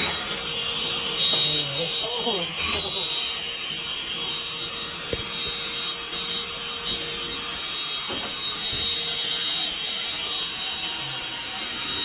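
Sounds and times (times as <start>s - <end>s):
vacuum whining: 0.0s - 12.0s.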